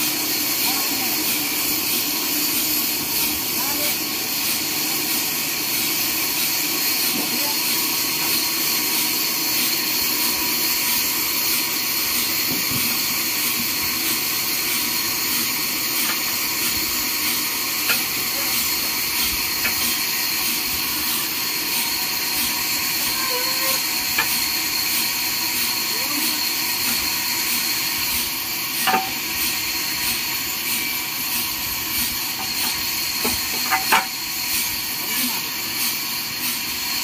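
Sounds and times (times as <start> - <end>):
bandsaw running: 0.0 - 37.0.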